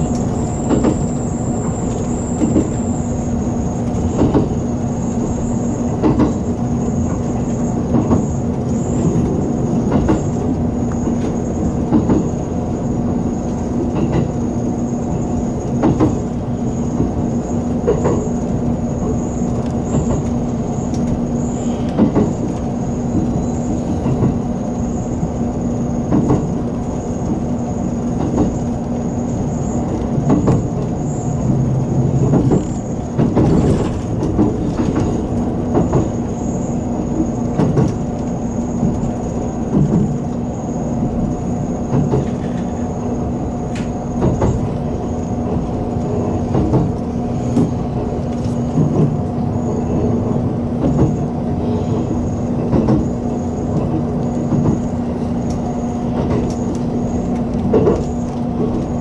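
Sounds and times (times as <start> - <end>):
electric train running rumble: 0.0 - 59.0.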